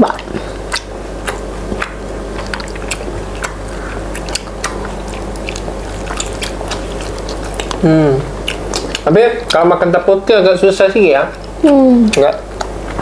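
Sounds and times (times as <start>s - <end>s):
wet chewing and mouth smacks: 0.0s - 9.6s, 11.3s - 13.0s.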